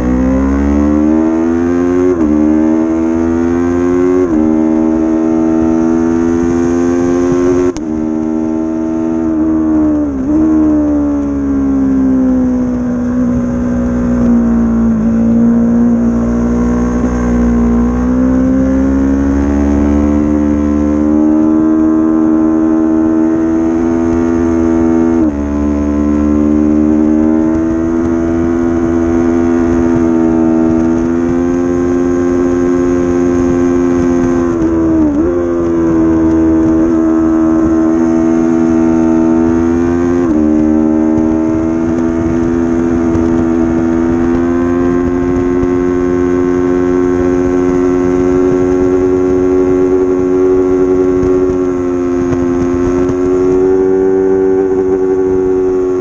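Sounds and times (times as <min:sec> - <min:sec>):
motorcycle engine revving high: 0:00.0 - 0:56.0
wind rumble on microphone: 0:00.0 - 0:56.0.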